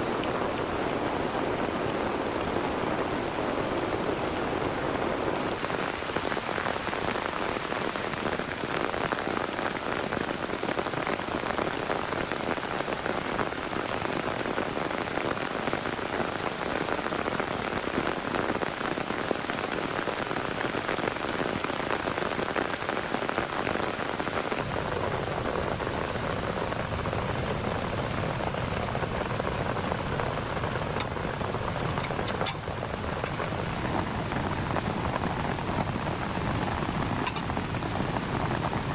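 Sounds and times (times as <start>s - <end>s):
heavy rain in forest: 0.0s - 38.9s.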